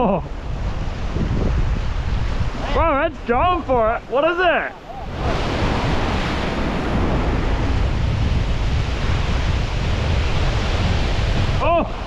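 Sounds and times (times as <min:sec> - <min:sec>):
wind buffeting microphone: 0:00.0 - 0:12.0
surf breaking on rocks: 0:01.8 - 0:12.0.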